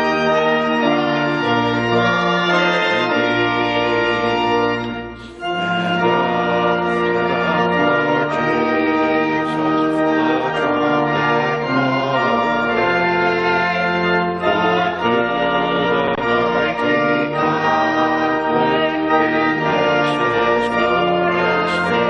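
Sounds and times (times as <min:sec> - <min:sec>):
church organ playing a hymn: 0:00.0 - 0:22.0.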